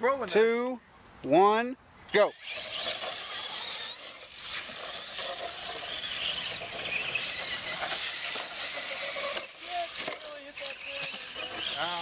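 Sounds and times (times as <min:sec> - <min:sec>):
electric motors whining: 0:02.2 - 0:12.0.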